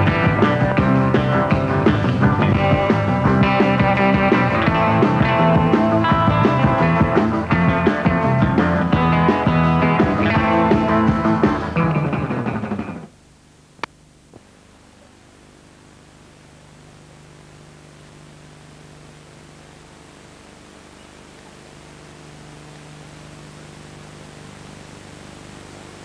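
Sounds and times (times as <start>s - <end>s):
recording hiss with low hum: 0.0s - 26.0s.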